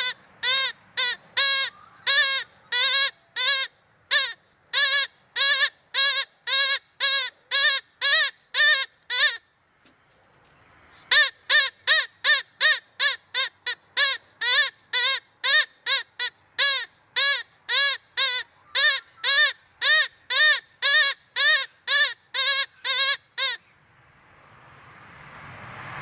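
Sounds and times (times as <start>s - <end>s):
animal calling: 0.0s - 9.4s, 11.0s - 23.6s.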